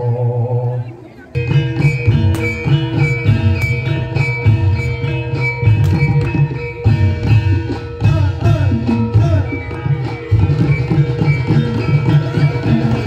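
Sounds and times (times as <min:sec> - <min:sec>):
drums in brisk rhythm: 0:01.4 - 0:13.0
ringing pitched percussion: 0:01.4 - 0:13.0.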